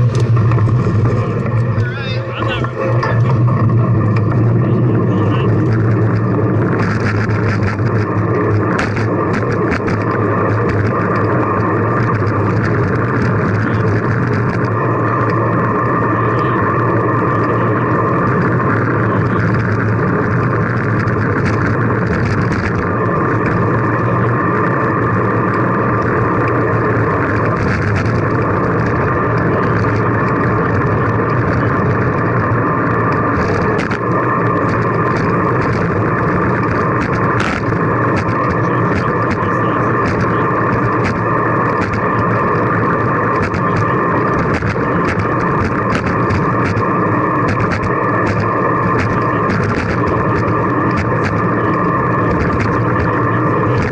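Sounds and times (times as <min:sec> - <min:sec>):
road noise: 0:00.0 - 0:53.9.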